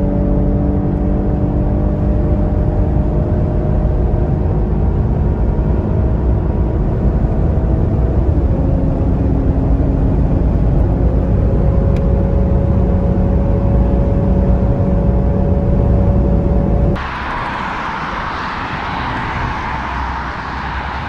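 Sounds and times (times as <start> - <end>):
car engine accelerating: 0.0 - 21.0
road rumble: 0.0 - 21.0.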